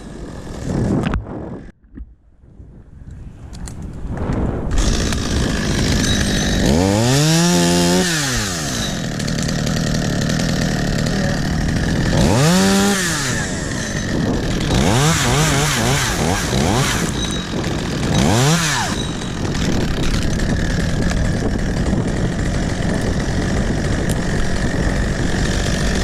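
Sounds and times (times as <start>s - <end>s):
chainsaw revving: 0.0s - 1.0s, 4.8s - 26.0s.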